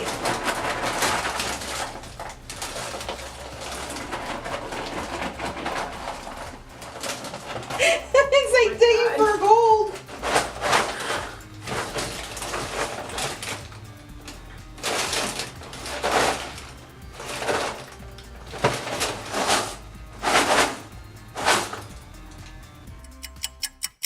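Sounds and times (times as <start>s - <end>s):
cereal flakes rustling: 0.0s - 22.4s.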